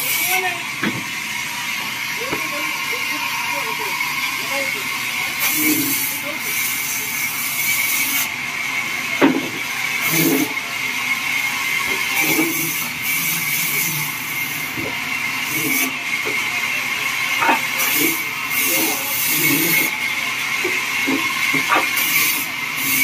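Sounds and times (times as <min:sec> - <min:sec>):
sawmill machinery hiss and whine: 0:00.0 - 0:23.0.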